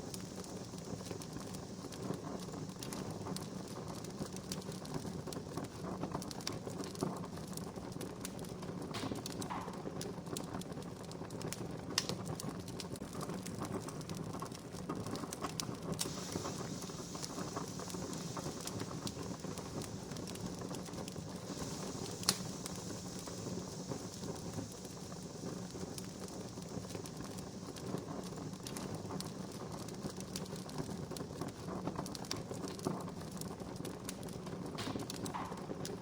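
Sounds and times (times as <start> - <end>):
high hiss of fire: 0.0 - 36.0
wood fire crackling: 0.0 - 36.0
sharp pops of burning wood: 0.1 - 36.0.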